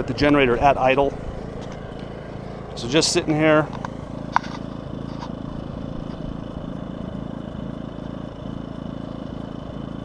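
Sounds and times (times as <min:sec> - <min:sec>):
faint high whine: 0:00.0 - 0:10.0
generator engine idling: 0:00.0 - 0:10.0.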